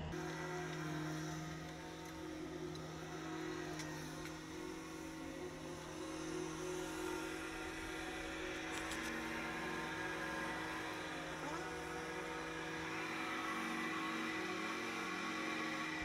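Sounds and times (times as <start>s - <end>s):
steady hum of held tones: 0.0s - 16.0s.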